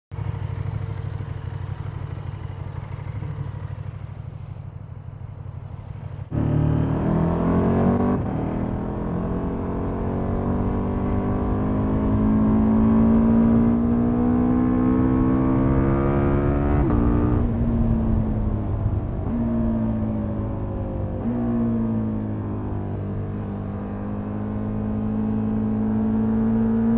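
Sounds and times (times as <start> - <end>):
motorcycle engine revving: 0.1 - 26.9.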